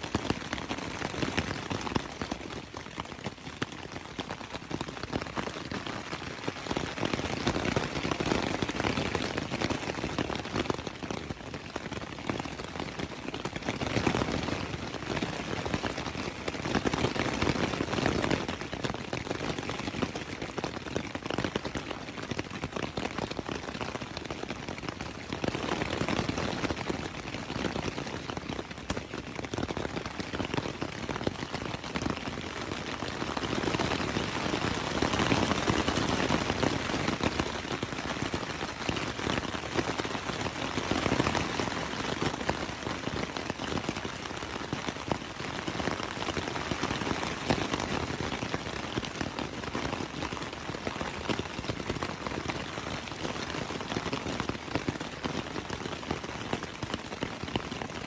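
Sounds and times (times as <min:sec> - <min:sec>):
rain on tent fabric: 0:00.0 - 0:58.0.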